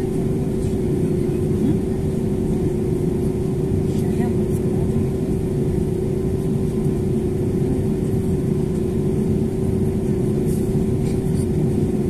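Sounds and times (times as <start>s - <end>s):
air conditioning hum: 0.0s - 12.0s
aircraft engine rumble: 0.0s - 12.0s.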